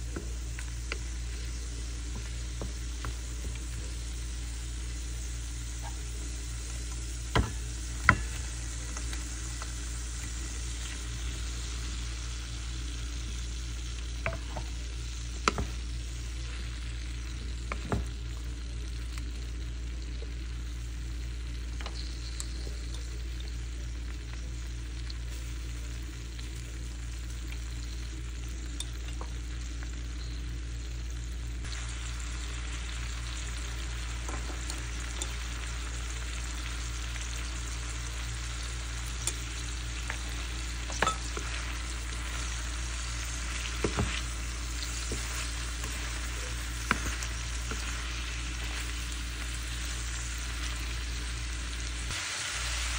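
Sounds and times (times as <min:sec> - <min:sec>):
garlic and chillies sizzling in oil: 0:00.0 - 0:52.9
low hum: 0:00.0 - 0:52.9.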